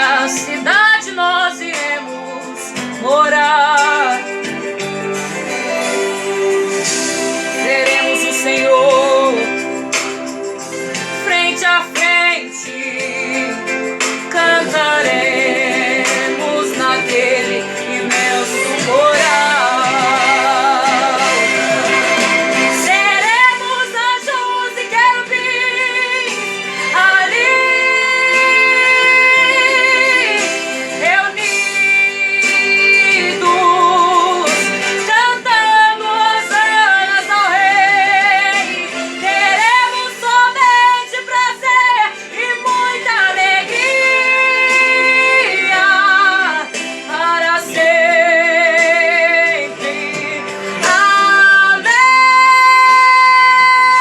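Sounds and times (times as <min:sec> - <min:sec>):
woman singing gospel: 0:00.0 - 0:05.1, 0:06.2 - 0:09.8, 0:11.1 - 0:54.0
backing music: 0:00.0 - 0:54.0.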